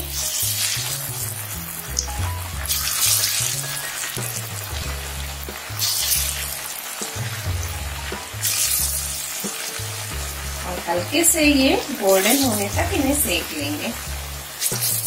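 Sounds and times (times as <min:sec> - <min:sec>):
background music with bass: 0:00.0 - 0:15.0
dough deep-frying in oil: 0:00.0 - 0:15.0.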